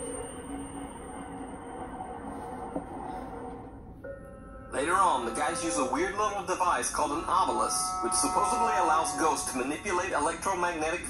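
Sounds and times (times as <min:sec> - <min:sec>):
dark ambient drone music: 0:00.0 - 0:11.0.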